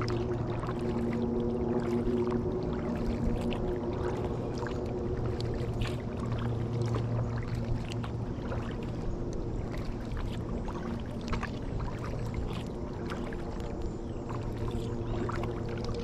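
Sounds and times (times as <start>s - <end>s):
steady low hum: 0.0s - 16.0s
water splashing around kayak: 0.0s - 16.0s.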